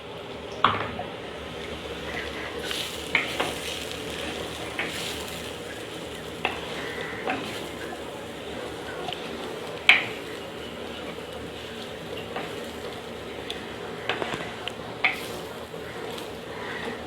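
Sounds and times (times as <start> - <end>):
food sizzling in a pot: 1.3 - 17.0.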